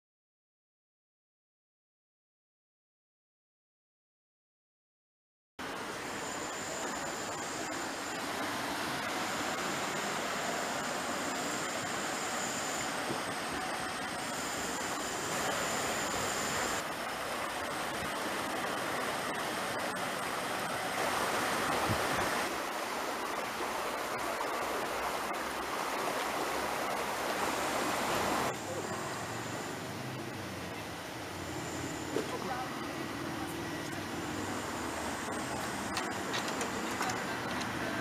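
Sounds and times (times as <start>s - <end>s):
river water rushing: 5.6s - 38.0s.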